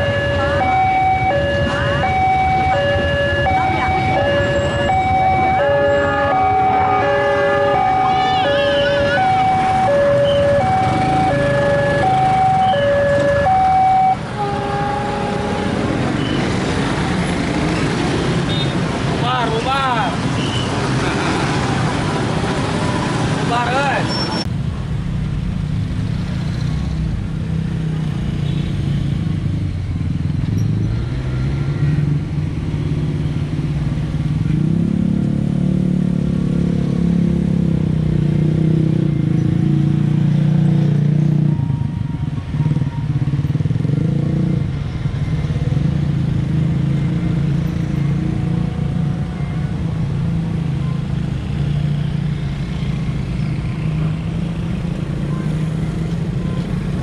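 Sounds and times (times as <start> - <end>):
car engines passing: 0.0 - 57.0
motorcycle engines passing: 0.0 - 57.0.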